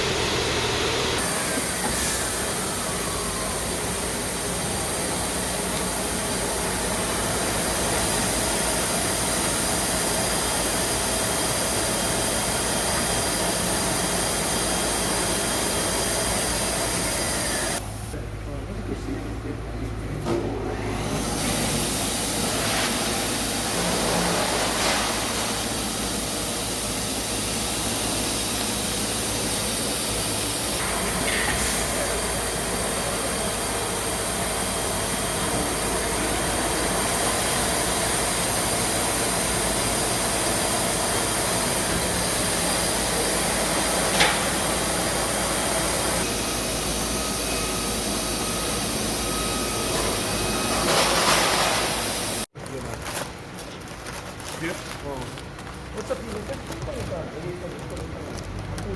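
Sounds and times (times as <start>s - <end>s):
packaging machinery hissing: 0.0s - 17.8s, 21.0s - 58.9s.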